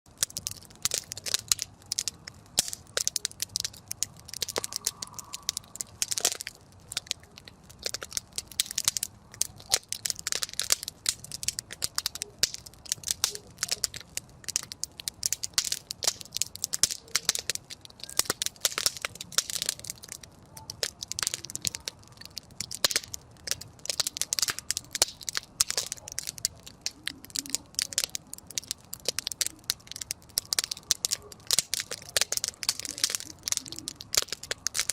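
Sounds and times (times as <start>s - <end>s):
campfire crackling: 0.1s - 34.9s.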